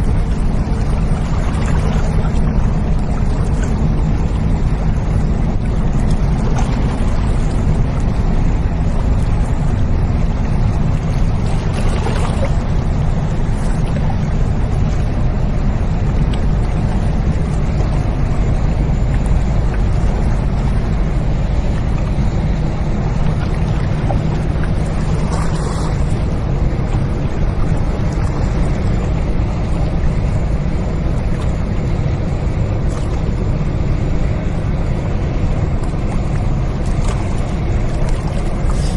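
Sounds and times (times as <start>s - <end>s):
ship engine droning: 0.0s - 38.9s.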